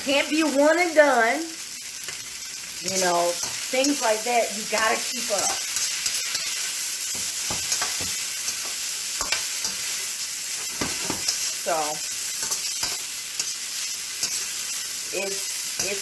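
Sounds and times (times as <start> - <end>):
steak sizzling in a pot: 0.0 - 16.0.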